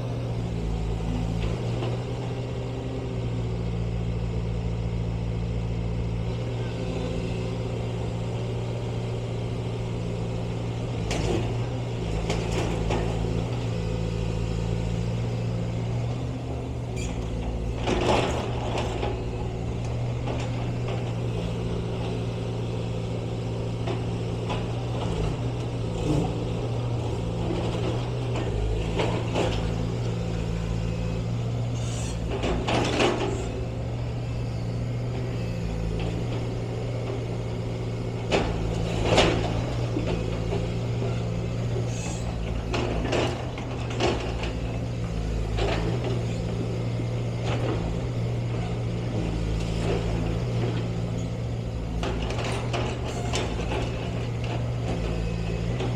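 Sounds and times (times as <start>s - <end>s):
vehicle engine humming: 0.0s - 55.9s.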